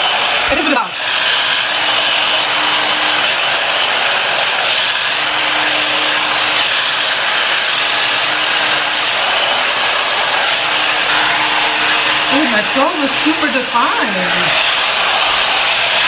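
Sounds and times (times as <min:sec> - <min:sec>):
hair dryer blowing air: 0:00.0 - 0:16.0
high motor whine: 0:00.0 - 0:16.0.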